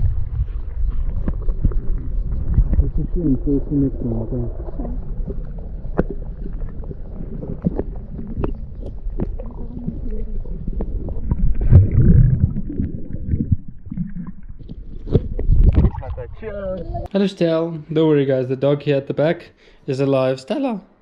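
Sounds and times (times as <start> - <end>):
underwater rumble and sloshing: 0.0 - 17.1.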